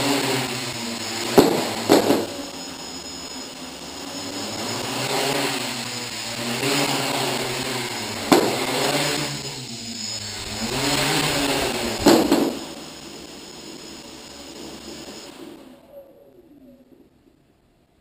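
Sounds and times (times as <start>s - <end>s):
quadcopter propellers buzzing: 0.0s - 17.1s.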